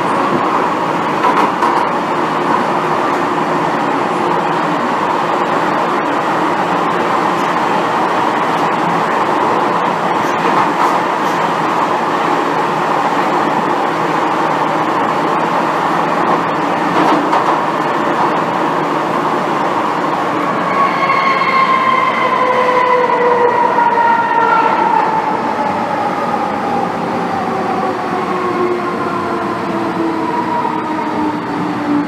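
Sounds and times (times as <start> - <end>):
train cabin noise underground: 0.0 - 32.0.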